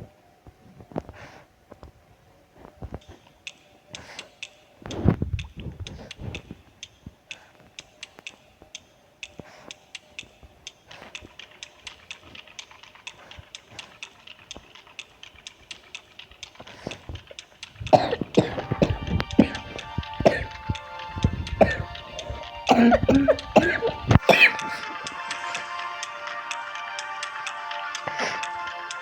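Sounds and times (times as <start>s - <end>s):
steady light clicking: 3.0s - 28.6s.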